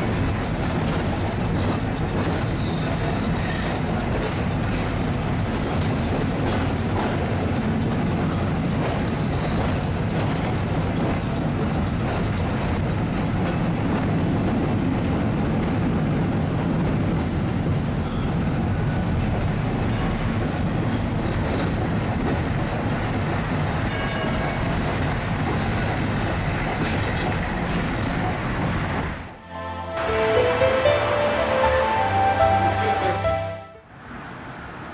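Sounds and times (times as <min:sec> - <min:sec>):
tram wheels rumbling on rails: 0:00.0 - 0:29.4.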